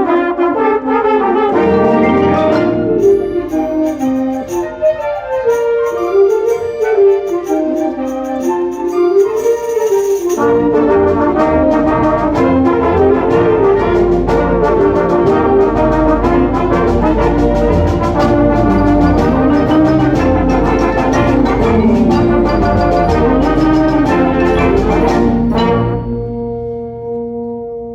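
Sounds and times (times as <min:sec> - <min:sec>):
brass band playing: 0:00.0 - 0:27.9
low accompaniment: 0:00.0 - 0:27.9.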